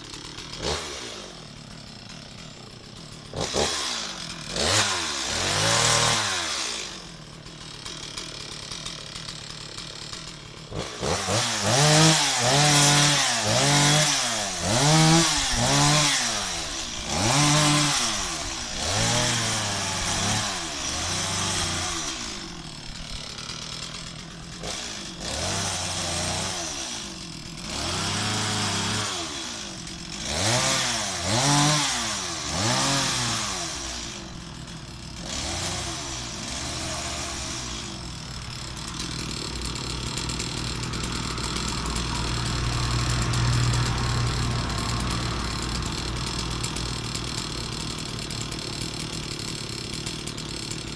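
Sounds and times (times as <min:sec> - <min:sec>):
chainsaw revving and idling: 0:00.0 - 0:50.9.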